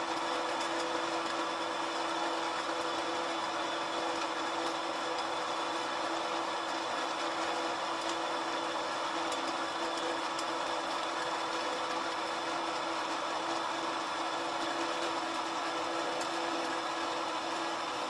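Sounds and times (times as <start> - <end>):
pellet mill whirring and humming: 0.0 - 18.0.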